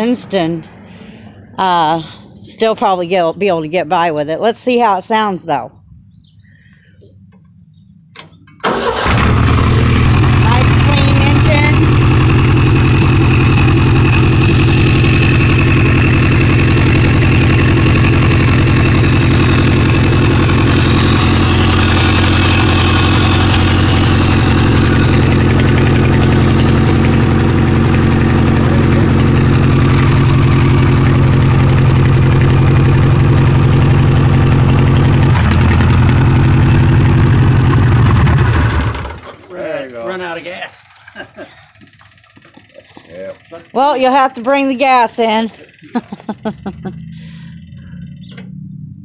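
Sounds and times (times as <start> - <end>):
tractor engine running: 7.3 - 49.0.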